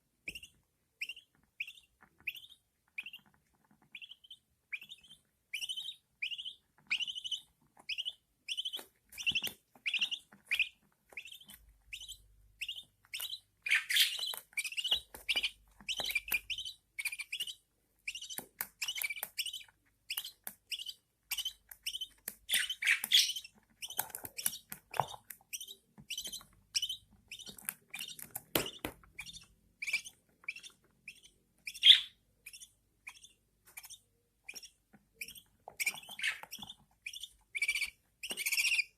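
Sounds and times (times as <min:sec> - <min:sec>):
chicks cheeping: 0:00.2 - 0:38.9.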